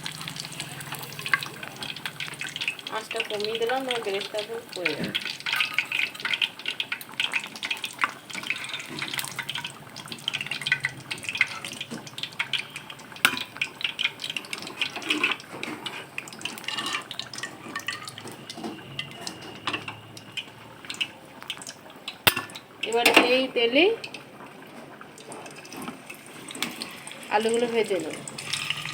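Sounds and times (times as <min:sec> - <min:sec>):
onions frying in oil: 0:00.0 - 0:28.9.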